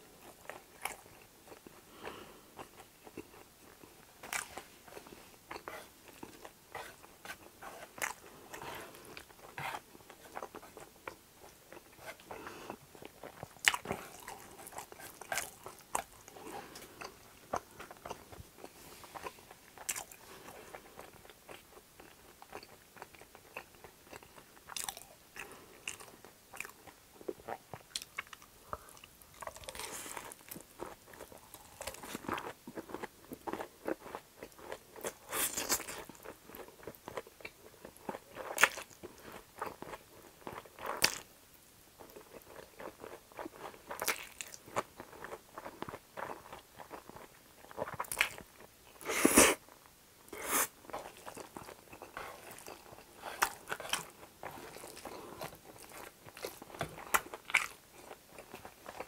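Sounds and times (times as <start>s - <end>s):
chewing food with wet smacks: 0.0s - 41.3s, 41.9s - 49.8s, 50.8s - 59.0s.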